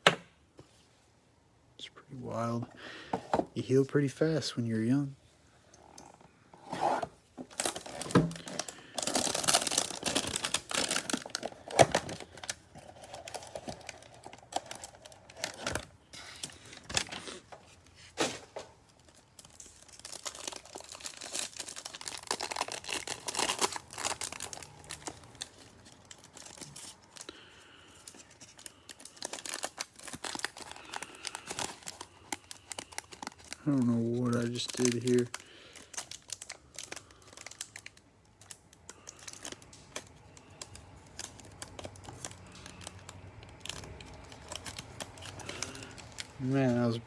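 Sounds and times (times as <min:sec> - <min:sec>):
plastic wrap crinkling: 0:07.4 - 0:47.0.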